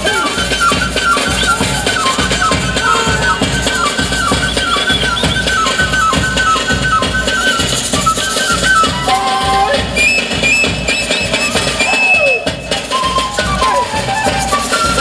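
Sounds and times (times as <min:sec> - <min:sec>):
flute melody: 0:00.0 - 0:15.0
steady drum beat: 0:00.0 - 0:15.0.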